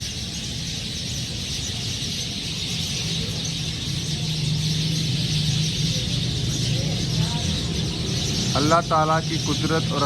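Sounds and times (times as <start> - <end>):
flock of sparrows chirping: 0.0 - 10.0.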